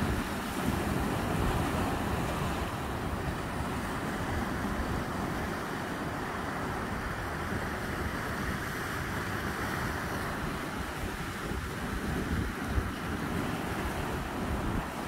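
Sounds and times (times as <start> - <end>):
ocean surf washing on shore: 0.0 - 15.0
wind buffeting microphone: 0.0 - 15.0.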